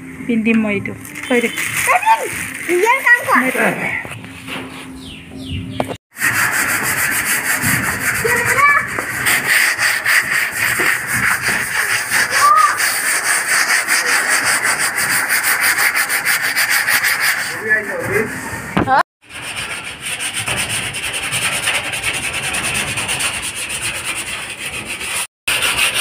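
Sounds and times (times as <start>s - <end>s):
sandpaper rubbing on metal: 1.2s - 5.0s, 6.1s - 26.0s.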